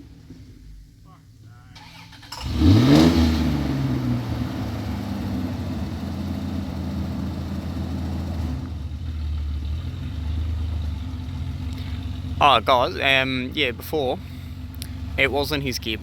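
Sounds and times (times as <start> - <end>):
vehicle engine running at low revs: 0.0 - 16.0.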